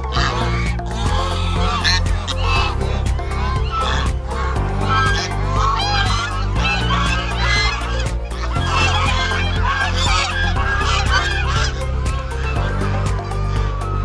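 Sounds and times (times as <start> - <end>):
background music with bass: 0.0 - 14.0
geese honking: 0.0 - 14.0.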